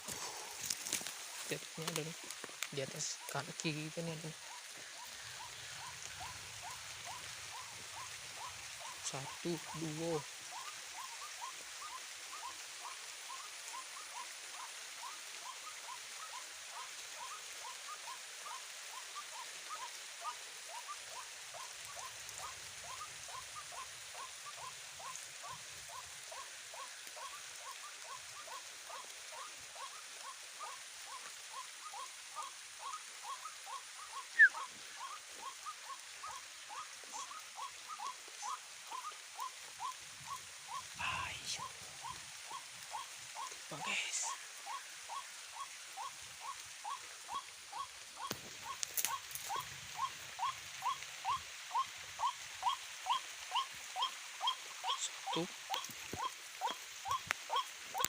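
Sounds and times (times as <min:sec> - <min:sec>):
light rain hiss: 0:00.0 - 0:58.0.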